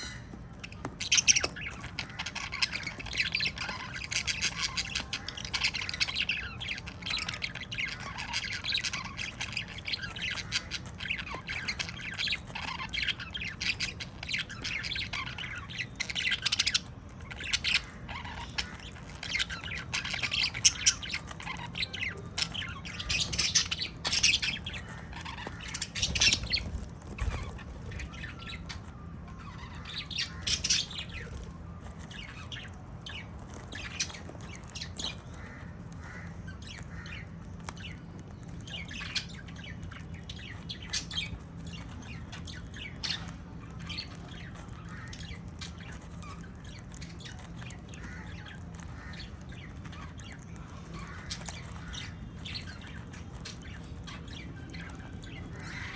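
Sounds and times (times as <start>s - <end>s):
small birds chirping and squawking: 0.0s - 55.9s
steady low hum: 0.0s - 55.9s.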